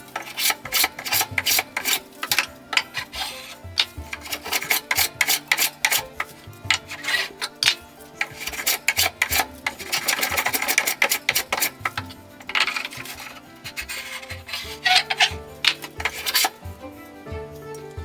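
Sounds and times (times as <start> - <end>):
hand tool scraping wooden board: 0.0 - 18.0.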